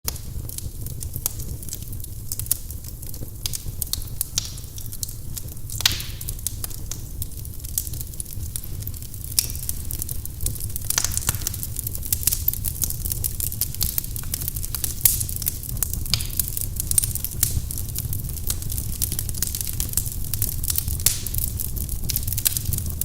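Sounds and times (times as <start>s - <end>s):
fireplace wood crackling: 0.1s - 23.0s
low fire rumble: 0.1s - 23.0s.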